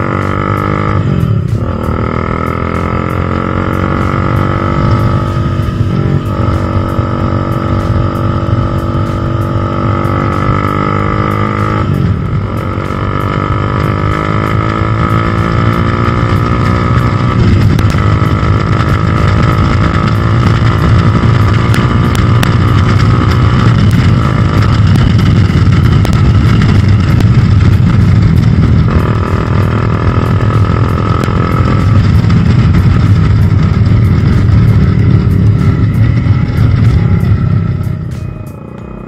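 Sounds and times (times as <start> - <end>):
wind noise: 0.0 - 38.4
motorcycle engine accelerating: 0.0 - 39.0.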